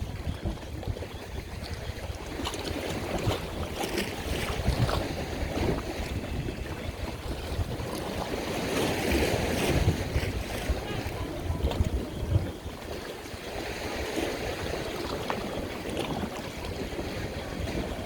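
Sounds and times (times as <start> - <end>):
waves splashing: 0.0 - 18.0
wind buffeting microphone: 0.0 - 18.0.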